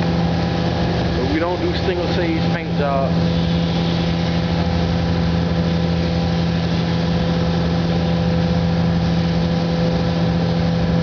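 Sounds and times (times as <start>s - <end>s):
machine hum with low drone: 0.0s - 11.0s.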